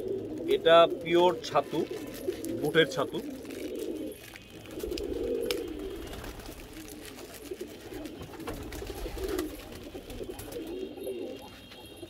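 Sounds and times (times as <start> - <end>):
plastic bag crinkling: 0.0 - 10.8
pigeons cooing: 0.0 - 12.0.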